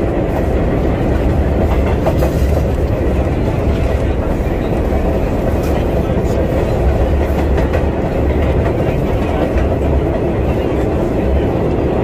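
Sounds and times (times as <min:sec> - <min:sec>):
subway train wheels rumbling on rails: 0:00.0 - 0:12.0
train clickety-clack: 0:00.0 - 0:12.0.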